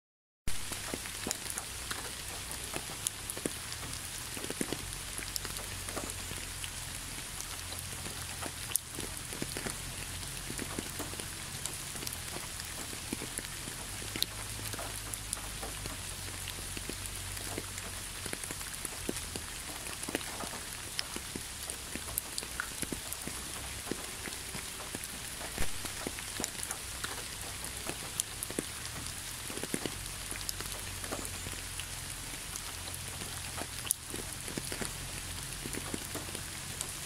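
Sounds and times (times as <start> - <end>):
raindrops ticking close by: 0.5 - 37.0
steady rain hiss: 0.5 - 37.0.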